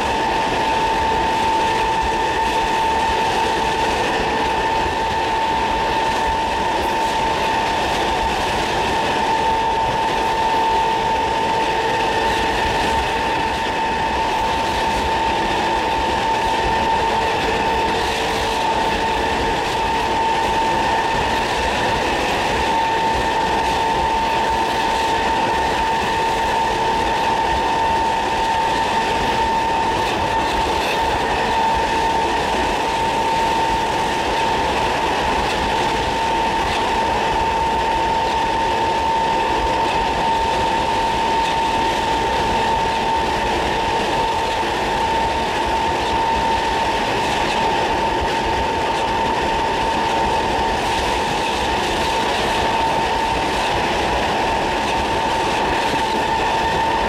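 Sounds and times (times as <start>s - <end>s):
electric train motors whining: 0.0s - 57.0s
wheel and rail noise: 0.0s - 57.0s.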